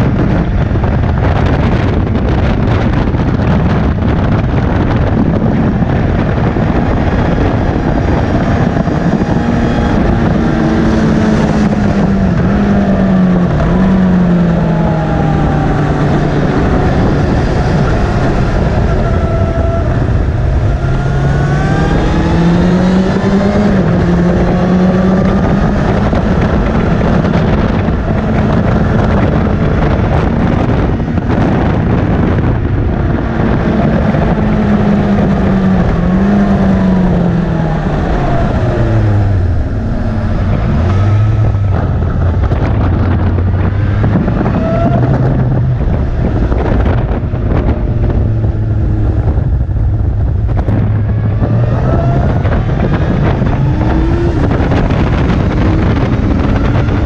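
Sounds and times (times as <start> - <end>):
motorcycle engine: 0.0 - 57.0
wind buffeting microphone: 0.0 - 57.0.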